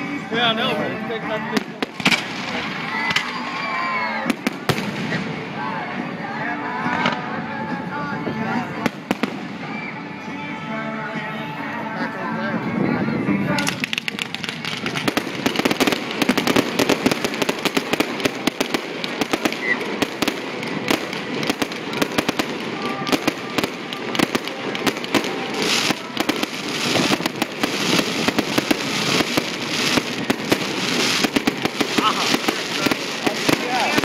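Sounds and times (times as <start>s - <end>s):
fireworks popping and crackling: 0.0s - 5.8s, 8.7s - 10.0s, 13.5s - 34.0s.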